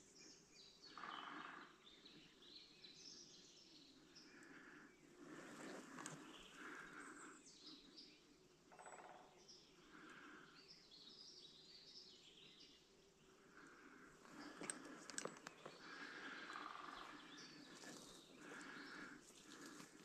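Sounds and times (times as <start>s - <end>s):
birds calling and singing: 0.0s - 20.0s.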